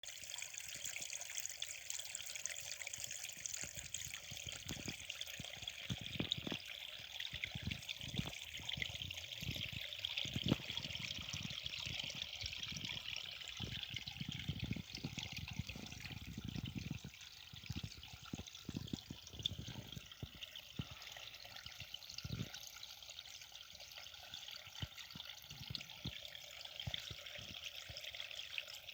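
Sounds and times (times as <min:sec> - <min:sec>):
forest stream trickling: 0:00.0 - 0:28.9.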